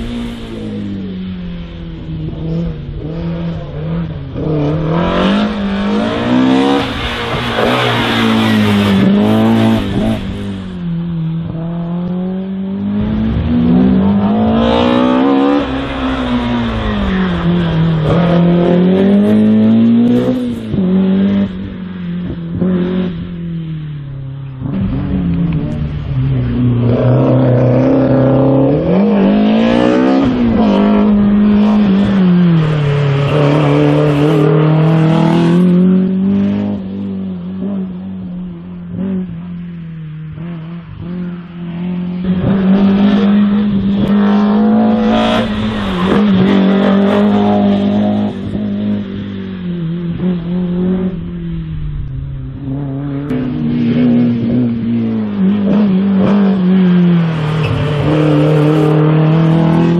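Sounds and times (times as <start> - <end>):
race car engine revving: 0.0 - 23.8, 24.5 - 39.6, 40.3 - 59.9.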